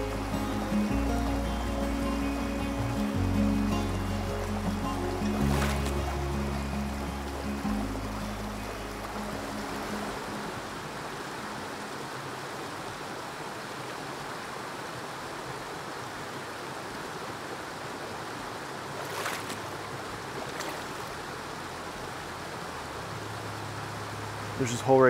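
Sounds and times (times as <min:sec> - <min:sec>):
stream running over gravel: 0:00.0 - 0:25.0.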